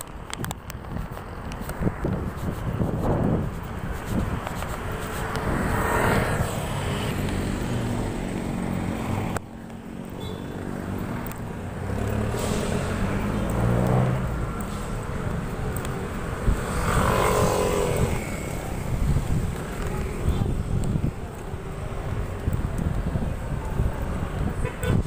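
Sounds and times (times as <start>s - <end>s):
cars and motorcycles passing: 0.0s - 25.0s.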